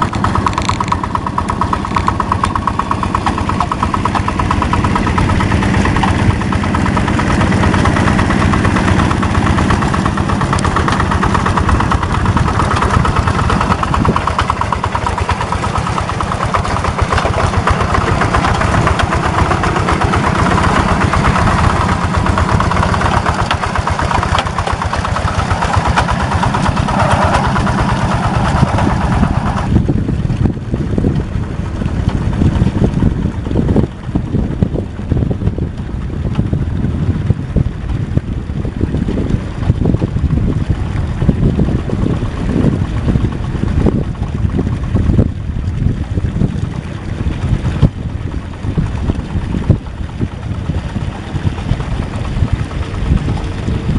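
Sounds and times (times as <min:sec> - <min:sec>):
diesel engine chugging: 0:00.0 - 0:53.9.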